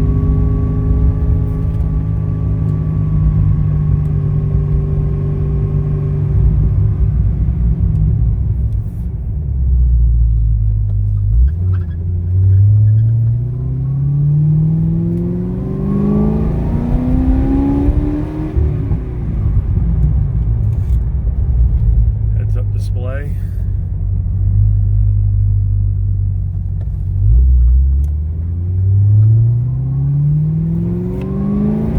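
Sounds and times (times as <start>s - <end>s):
car engine revving: 0.0s - 9.0s, 10.2s - 31.9s.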